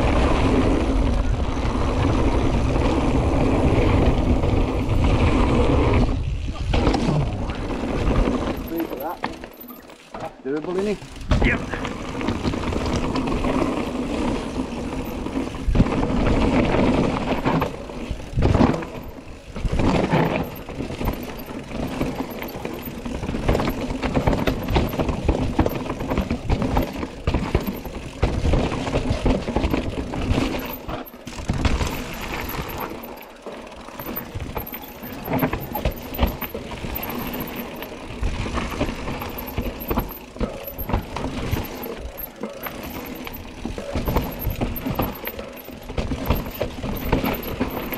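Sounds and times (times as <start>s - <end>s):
bike chain rattling: 0.0s - 47.9s
bike tyres over dirt and rocks: 0.0s - 47.9s.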